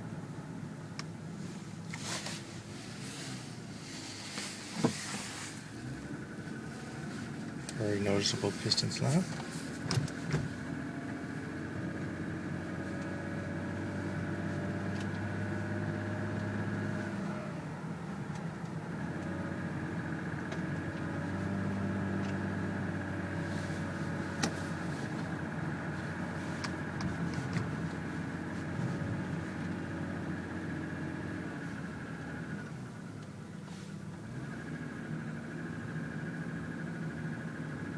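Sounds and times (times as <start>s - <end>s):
car engine running: 0.0s - 37.9s.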